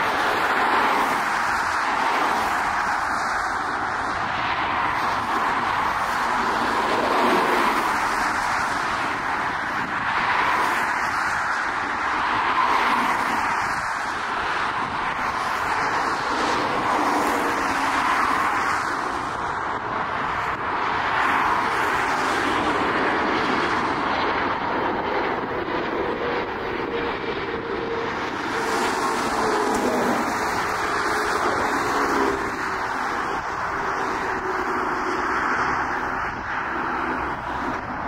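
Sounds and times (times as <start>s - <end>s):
jet engine rushing: 0.0s - 38.0s
road traffic: 0.0s - 38.0s.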